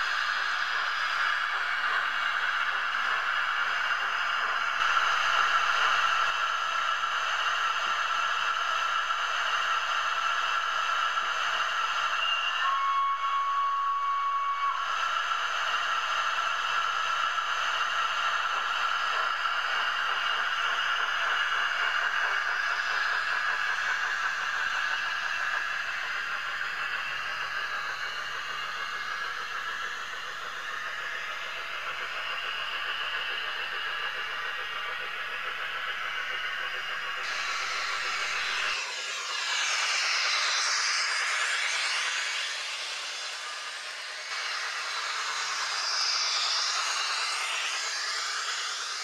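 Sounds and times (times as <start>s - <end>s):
model locomotive hissing: 0.0s - 49.0s.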